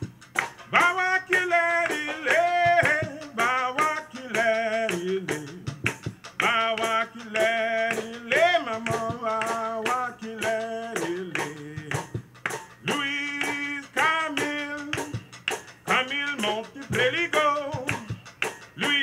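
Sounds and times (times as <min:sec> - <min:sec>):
drum hits: 0:00.0 - 0:19.0
man singing: 0:00.7 - 0:12.2, 0:12.8 - 0:19.0.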